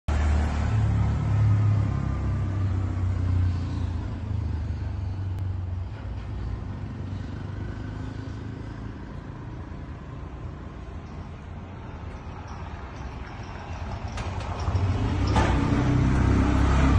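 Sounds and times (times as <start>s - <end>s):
street noise: 0.1s - 16.9s
vehicle engine rumble: 0.1s - 16.9s.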